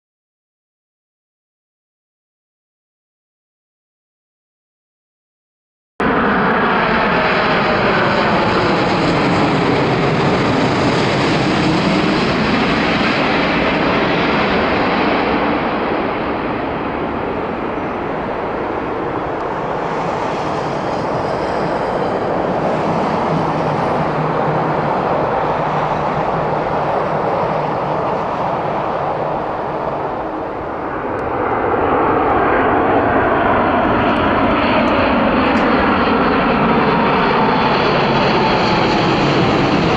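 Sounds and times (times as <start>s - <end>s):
jet airliner engines passing overhead: 6.0s - 39.9s.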